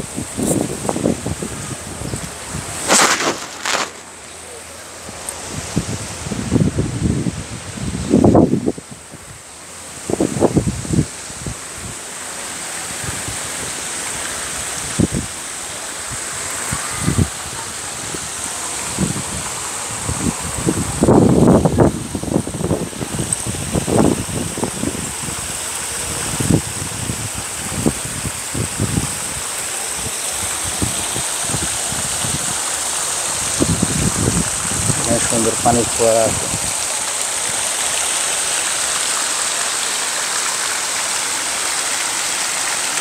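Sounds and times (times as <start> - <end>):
water fountain splashing: 0.0 - 43.0.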